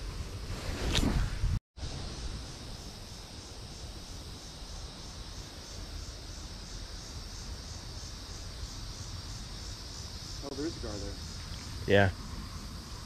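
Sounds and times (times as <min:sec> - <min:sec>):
insects chirring in pulses: 0:00.0 - 0:13.0.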